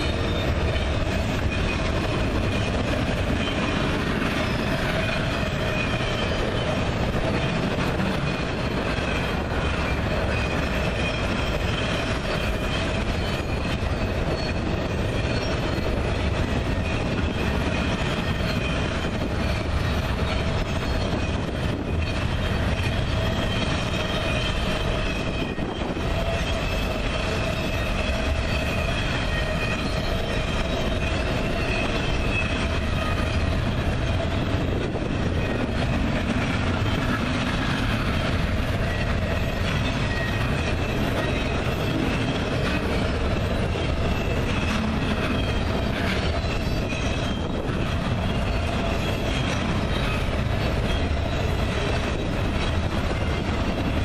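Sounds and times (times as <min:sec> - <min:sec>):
high wheel squeal: 0:00.0 - 0:54.0
train wheels rumbling on rail: 0:00.0 - 0:54.0.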